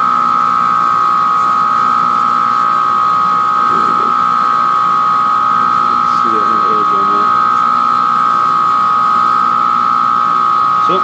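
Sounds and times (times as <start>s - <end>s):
grinder motor whining: 0.0s - 11.0s.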